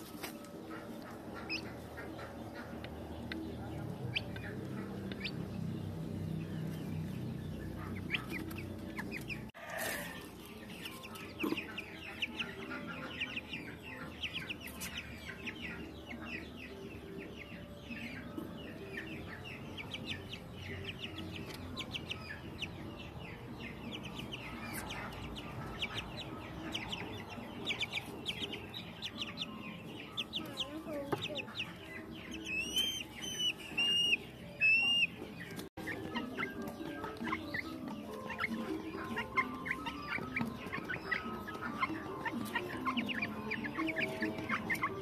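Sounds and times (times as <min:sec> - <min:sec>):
chicks peeping and clucking: 0:00.0 - 0:45.0.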